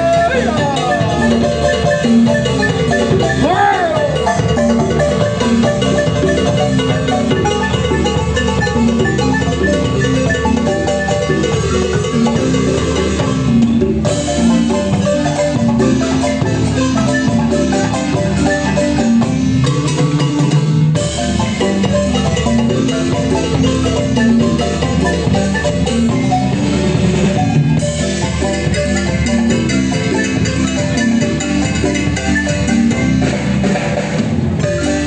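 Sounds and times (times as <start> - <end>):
bass line: 0.0 - 35.0
marimba tune: 0.0 - 35.0.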